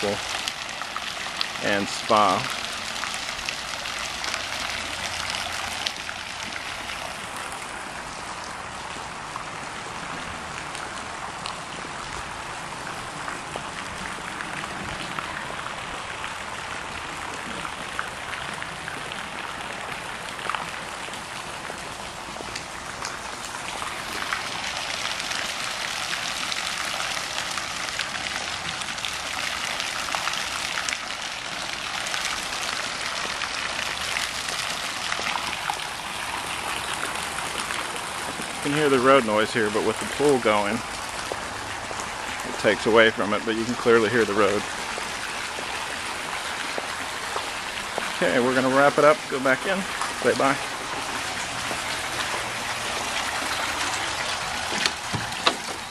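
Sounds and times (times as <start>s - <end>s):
pool water splashing: 0.0s - 55.9s.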